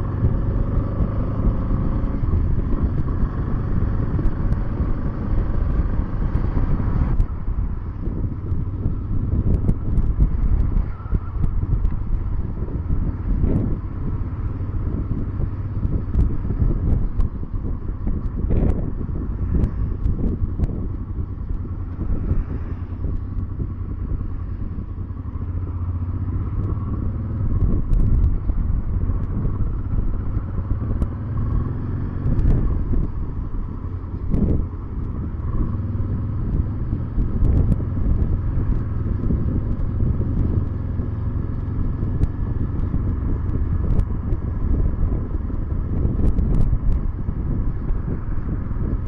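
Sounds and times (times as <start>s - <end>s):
motorcycle engine running: 0.0s - 49.0s
road noise: 0.0s - 49.0s
wind noise: 0.0s - 49.0s.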